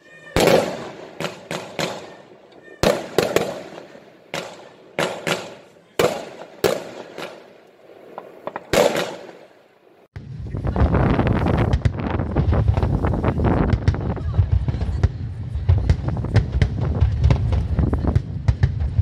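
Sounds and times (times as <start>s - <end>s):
firework bangs: 0.0s - 19.0s
rumbling crackling fireworks: 0.0s - 19.0s.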